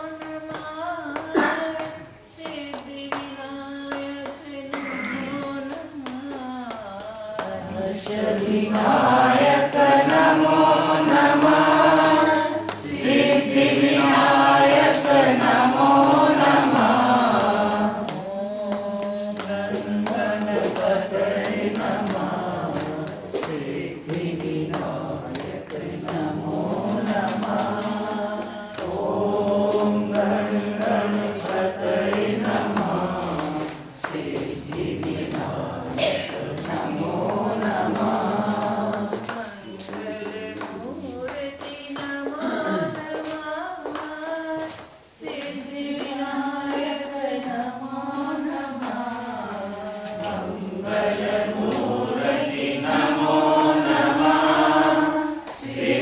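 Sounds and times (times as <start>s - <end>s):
women singing devotional song: 0.0s - 56.0s.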